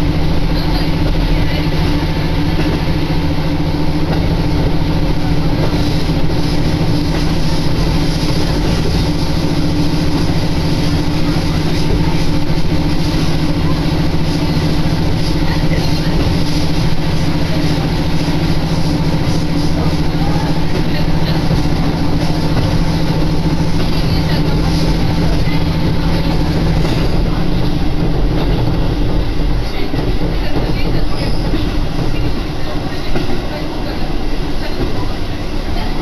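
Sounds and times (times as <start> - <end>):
railcar engine hum: 0.0 - 36.0
train rolling noise: 0.0 - 36.0.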